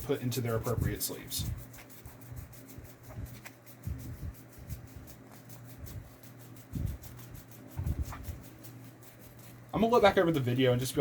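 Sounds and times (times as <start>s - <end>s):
steady low hum: 0.0s - 11.0s
faint card rustles: 0.4s - 10.6s.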